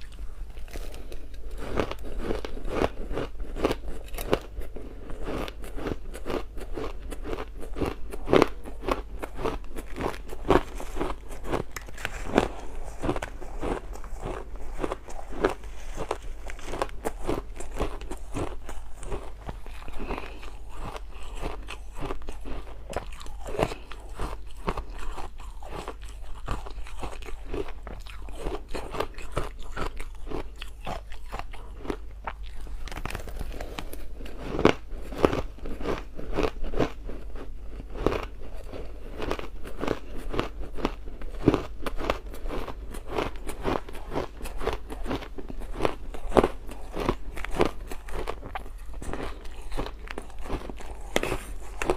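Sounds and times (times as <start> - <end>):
ice being chewed: 0.0 - 51.9
steady low hum: 0.0 - 51.9.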